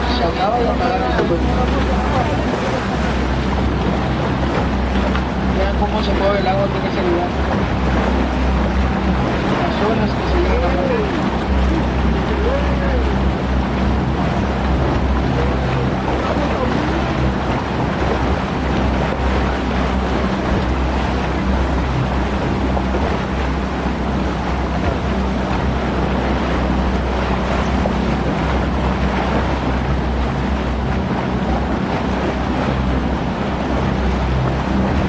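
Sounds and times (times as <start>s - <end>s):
boat motor running: 0.0s - 35.0s
water rushing: 0.0s - 35.0s
wind on microphone: 0.0s - 35.0s.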